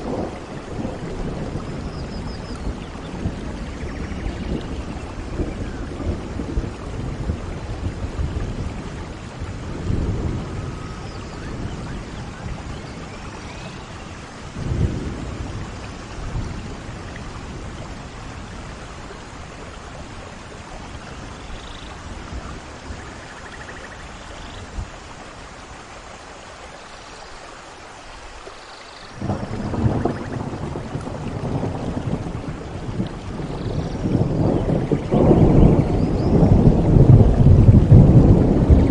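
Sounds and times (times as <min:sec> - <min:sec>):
thunder rumbling: 0:00.0 - 0:25.0, 0:29.2 - 0:38.9
steady rain falling: 0:00.0 - 0:38.9.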